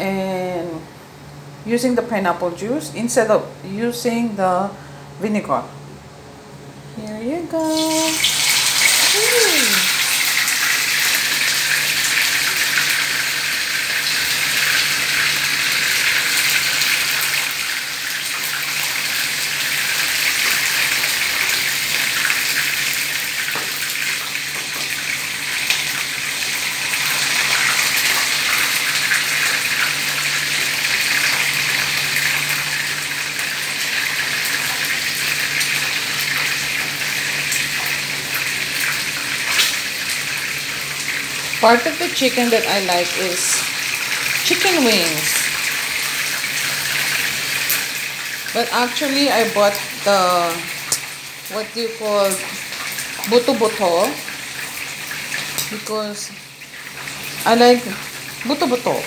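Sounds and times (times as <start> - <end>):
chicken wings sizzling in oil: 7.6 - 59.0.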